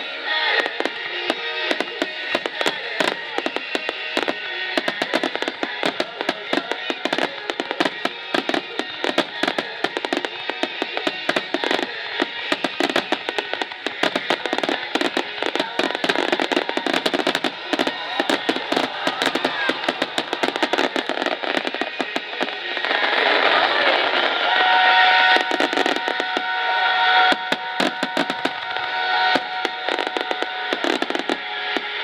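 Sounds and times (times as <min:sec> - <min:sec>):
fireworks bangs and crackles: 0:00.0 - 0:32.0
music: 0:00.0 - 0:32.0.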